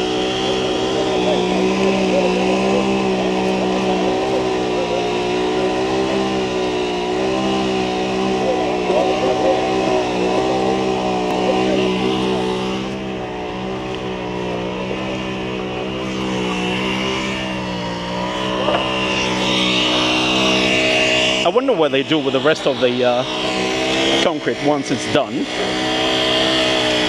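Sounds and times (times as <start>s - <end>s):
concrete being pumped: 0.0s - 27.0s
diesel engine running: 0.0s - 27.0s.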